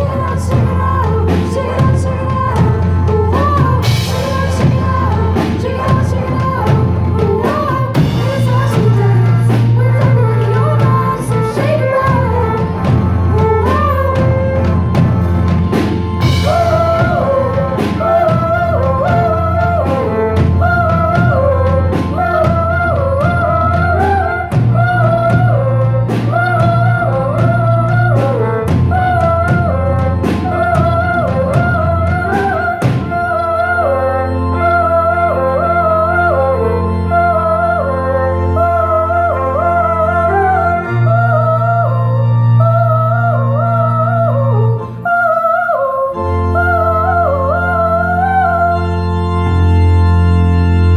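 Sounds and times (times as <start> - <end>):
woman singing: 0.0 - 49.6
bass: 0.0 - 50.9
held low keyboard chord: 0.0 - 50.9
lead melody with bent notes: 0.0 - 50.9
live rock band playing: 0.0 - 50.9.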